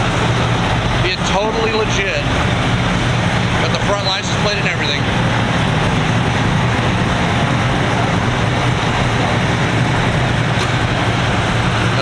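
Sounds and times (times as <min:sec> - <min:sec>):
low engine hum: 0:00.0 - 0:12.0
traffic roar: 0:00.0 - 0:12.0.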